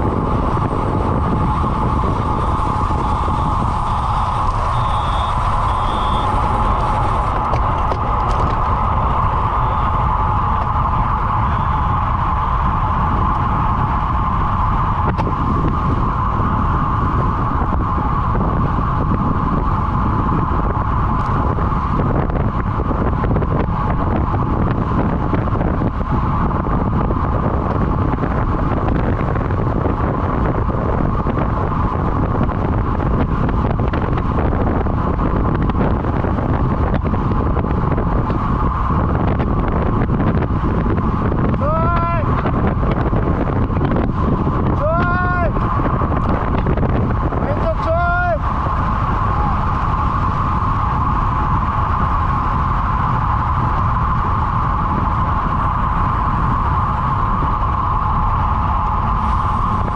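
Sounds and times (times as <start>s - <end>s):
high hum from moving bike: 0.0s - 59.9s
wind rushing over microphone: 0.0s - 59.9s.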